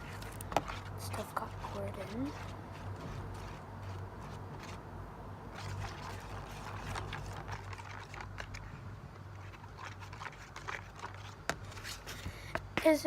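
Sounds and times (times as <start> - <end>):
spoon scraping slime: 0.0 - 4.8, 5.5 - 13.0
steady low hum: 0.0 - 13.0.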